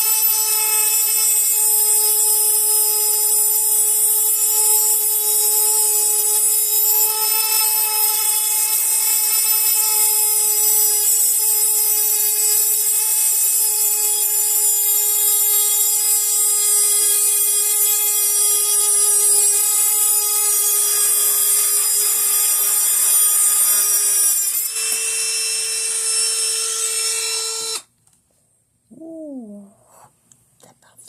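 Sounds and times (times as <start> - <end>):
rotary tool grinding metal: 0.0 - 27.9.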